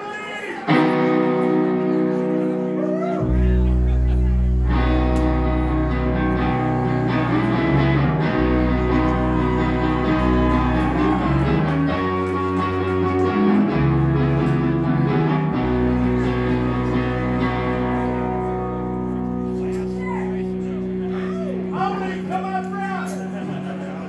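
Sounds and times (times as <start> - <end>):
rock band playing live: 0.6 - 24.0
electric guitars sustained notes: 0.7 - 24.0
bass line: 2.4 - 22.4.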